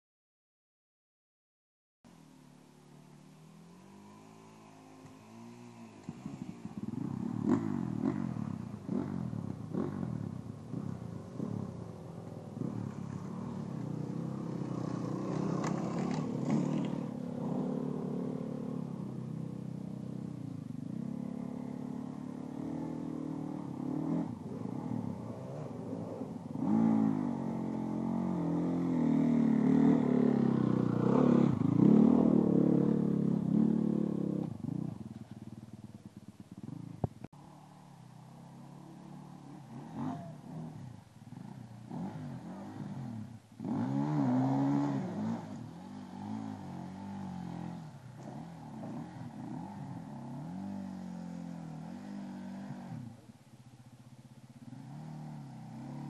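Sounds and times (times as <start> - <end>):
dirt bike engines revving: 2.9 - 56.0.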